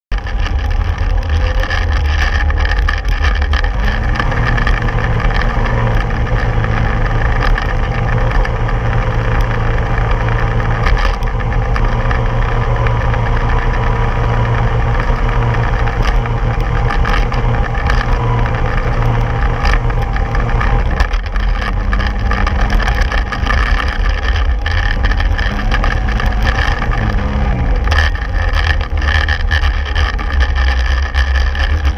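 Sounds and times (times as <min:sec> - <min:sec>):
snowmobile engine revving: 0:00.2 - 0:31.9.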